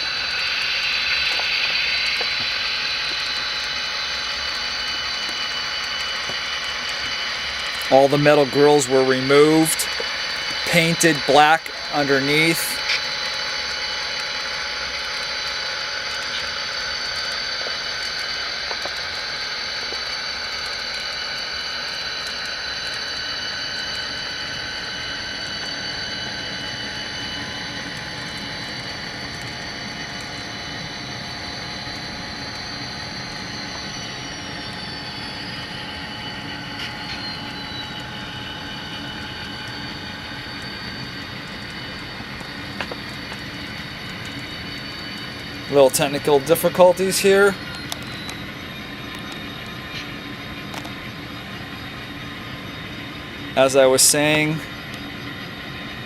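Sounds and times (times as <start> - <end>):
diesel engine sound from small speaker: 0.0 - 56.0
high whine gliding down: 0.0 - 56.0.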